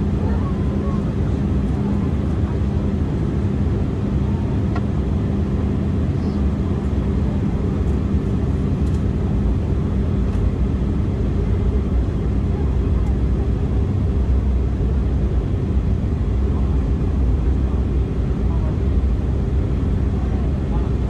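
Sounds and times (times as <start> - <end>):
airliner cabin noise in flight: 0.0 - 21.0.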